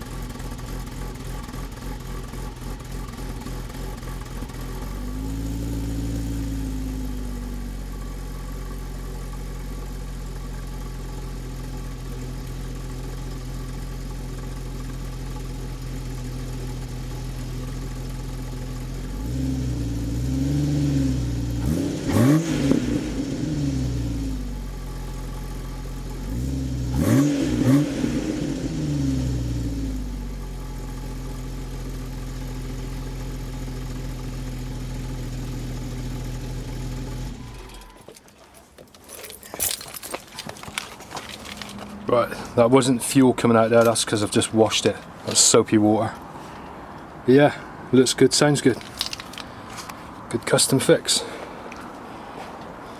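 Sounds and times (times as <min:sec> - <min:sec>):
car engine idling and revving: 0:00.0 - 0:38.2, 0:38.8 - 0:52.9.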